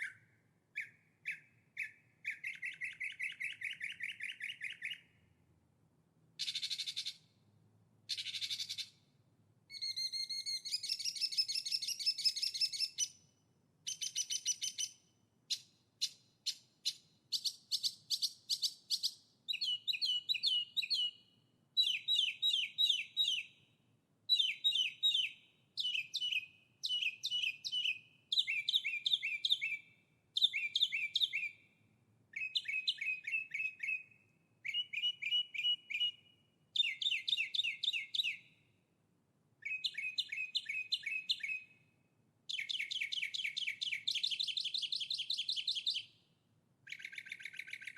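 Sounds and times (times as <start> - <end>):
songbird singing high chirps: 0.0 - 5.3, 6.4 - 7.3, 8.1 - 9.0, 9.7 - 23.7, 24.3 - 38.7, 39.6 - 41.9, 42.5 - 47.9.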